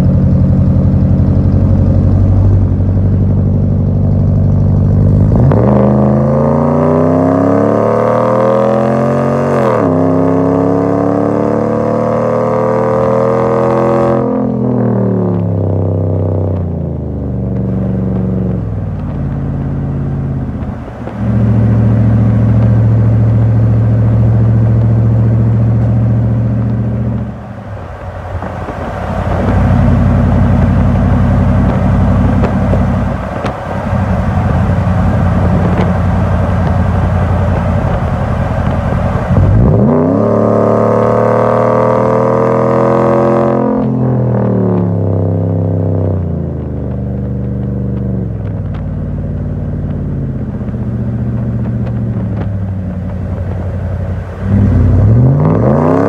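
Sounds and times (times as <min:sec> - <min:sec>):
truck exhaust drone: 0:00.0 - 0:56.0.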